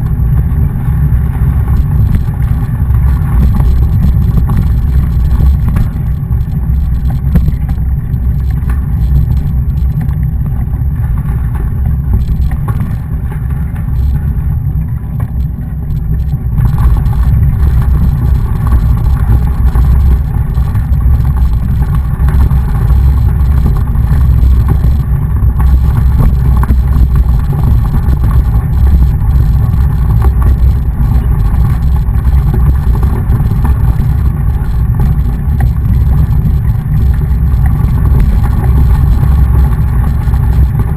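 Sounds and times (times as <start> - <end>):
wind rumbling on microphone: 0.0 - 40.9.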